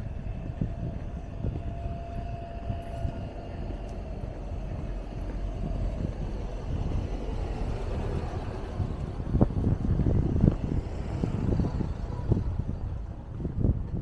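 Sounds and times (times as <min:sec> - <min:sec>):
vehicle rumble with whine: 0:00.0 - 0:14.0.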